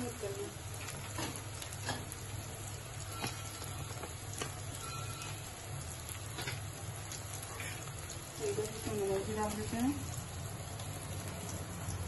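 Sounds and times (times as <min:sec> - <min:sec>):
noodles sizzling in a pan: 0:00.0 - 0:12.0.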